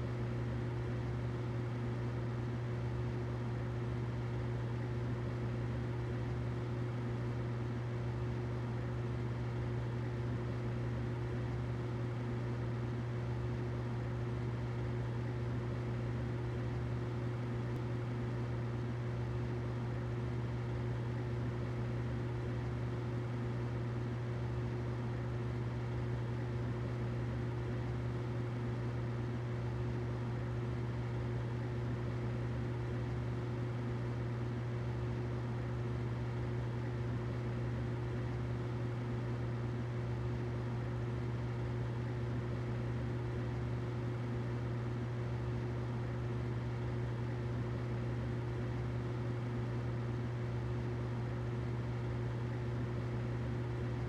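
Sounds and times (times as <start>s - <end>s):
humidifier humming and hissing: 0.0s - 54.0s.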